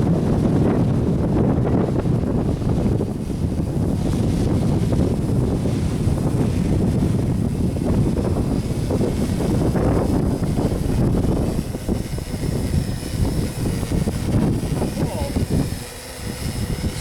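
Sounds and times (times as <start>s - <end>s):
electric motors whining: 0.0s - 17.0s
wind buffeting microphone: 0.0s - 17.0s.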